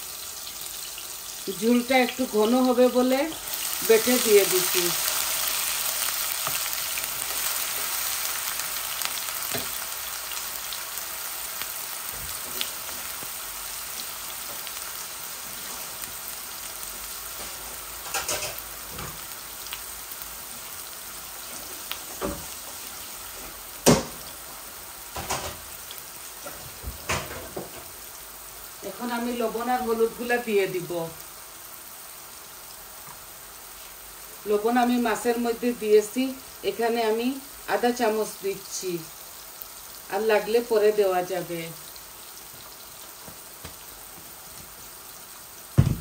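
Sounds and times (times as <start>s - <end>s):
onion sizzling in hot oil: 0.0s - 46.0s.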